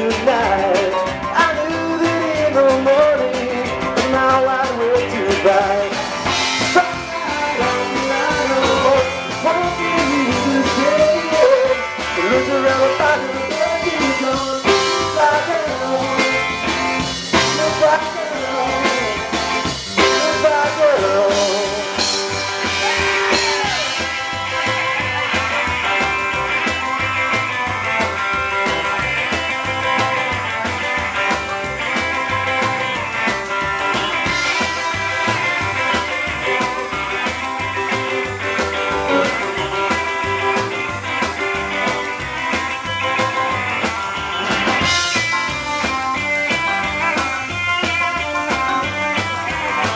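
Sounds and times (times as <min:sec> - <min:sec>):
bass: 0:00.0 - 0:49.9
drums: 0:00.0 - 0:49.9
electric guitar: 0:00.0 - 0:49.9
piano: 0:00.0 - 0:49.9.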